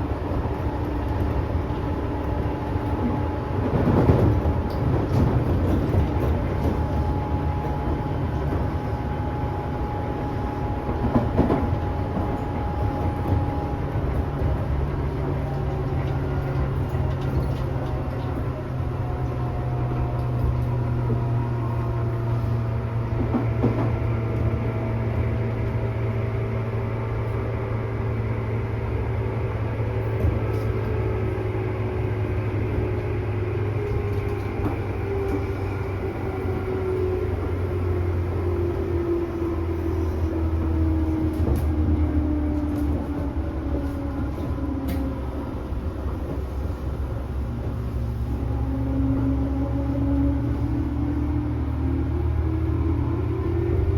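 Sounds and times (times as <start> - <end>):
wheels rumbling on rail: 0.0 - 53.9.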